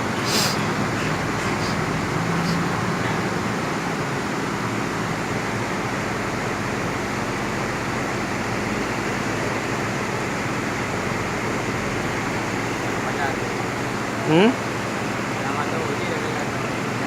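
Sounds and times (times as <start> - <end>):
heavy diesel machinery running: 0.0 - 17.0.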